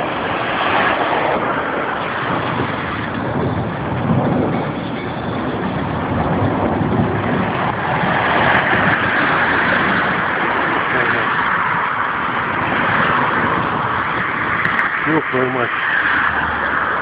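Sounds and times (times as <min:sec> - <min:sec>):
jet engines roaring in flight: 0:00.0 - 0:17.0.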